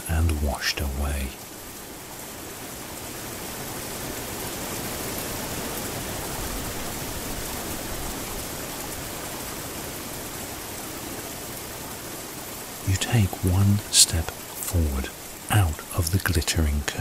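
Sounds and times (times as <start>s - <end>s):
waterfall pouring down: 0.0s - 17.0s.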